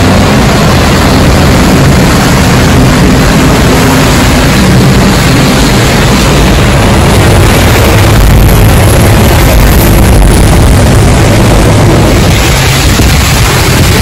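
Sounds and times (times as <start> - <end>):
heavy rain: 0.0 - 14.0
vehicle engines humming: 0.0 - 14.0.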